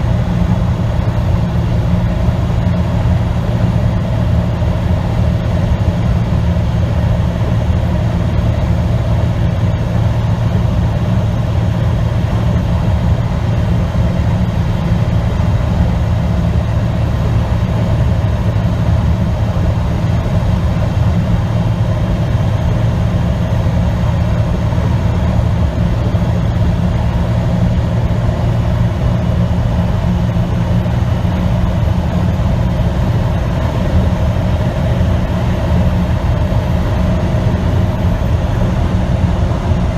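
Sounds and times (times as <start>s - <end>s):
diesel truck engine drone: 0.0s - 39.9s
road noise: 0.0s - 39.9s.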